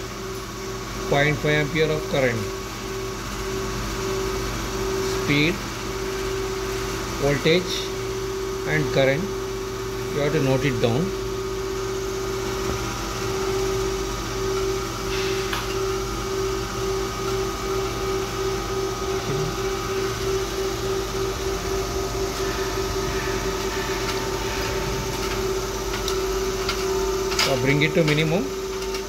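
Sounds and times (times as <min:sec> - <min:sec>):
electric motor humming: 0:01.6 - 0:29.0.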